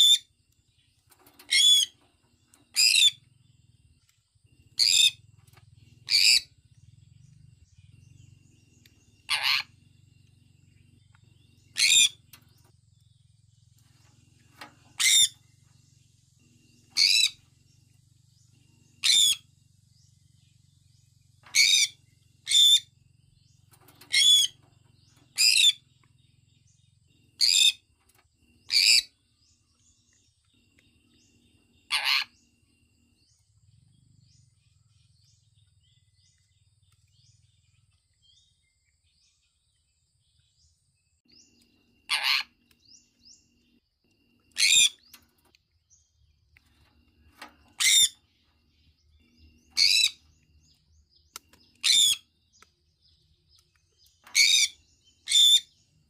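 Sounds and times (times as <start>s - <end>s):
conure chirping calls: 0.0s - 0.4s, 1.1s - 12.8s, 13.9s - 19.6s, 21.4s - 38.4s, 41.2s - 45.6s, 46.2s - 56.0s.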